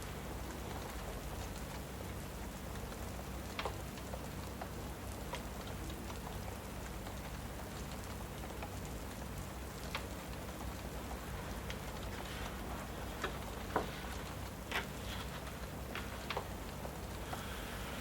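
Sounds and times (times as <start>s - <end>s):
fireplace crackles: 0.0s - 18.0s
steady rain: 0.0s - 18.0s.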